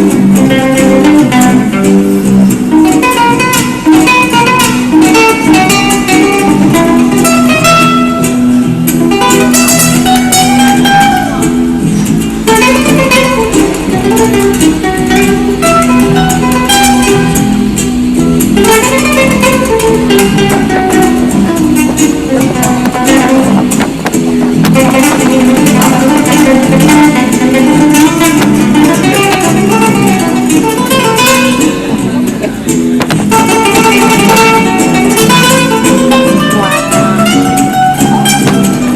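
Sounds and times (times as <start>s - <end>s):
flamenco-like guitar music: 0.0s - 38.9s.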